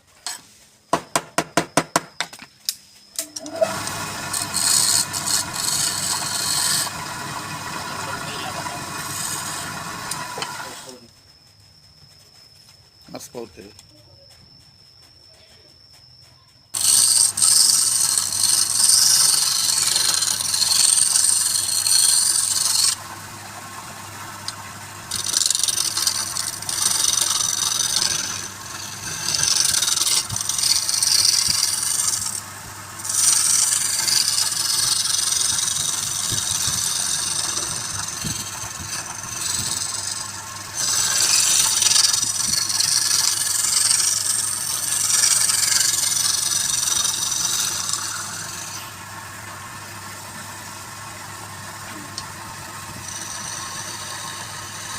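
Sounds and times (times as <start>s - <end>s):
tool scraping spinning wood: 3.0s - 11.6s, 16.8s - 54.9s
wood lathe humming: 3.2s - 11.0s, 16.8s - 54.9s.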